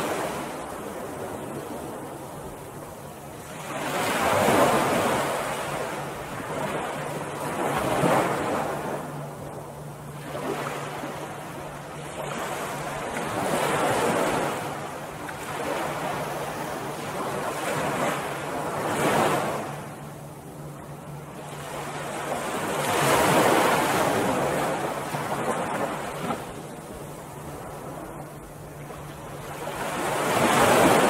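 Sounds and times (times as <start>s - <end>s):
ocean waves breaking: 0.0s - 31.0s.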